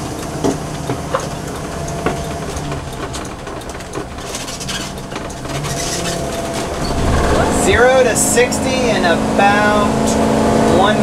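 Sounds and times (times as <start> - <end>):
interior rattling clicks: 0.0 - 9.8
motorhome engine accelerating: 0.0 - 11.0
road noise: 0.0 - 11.0.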